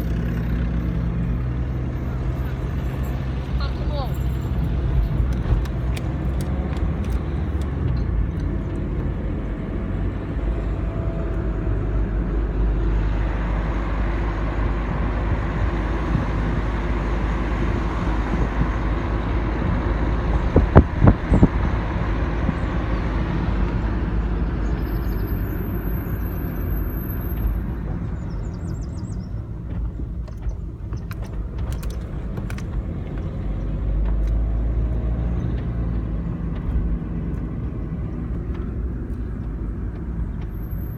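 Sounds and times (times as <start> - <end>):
motor vehicle road noise: 0.0 - 40.9.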